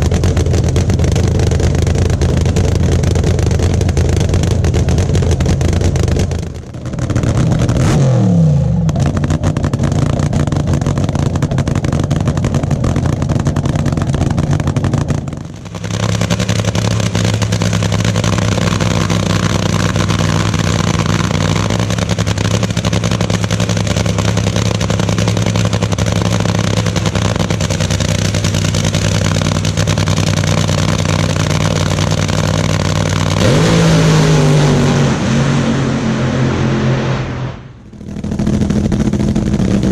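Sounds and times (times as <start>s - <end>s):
dragster engine idling roughly: 0.0s - 7.9s, 8.7s - 34.3s, 37.8s - 39.9s.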